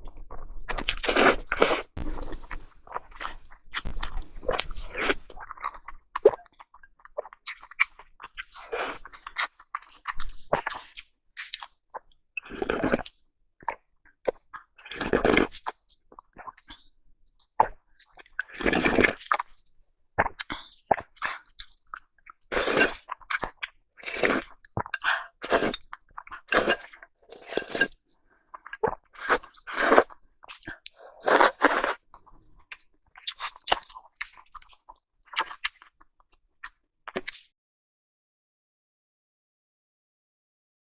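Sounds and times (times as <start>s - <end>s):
wet chewing sounds: 0.1s - 19.6s, 20.2s - 37.4s.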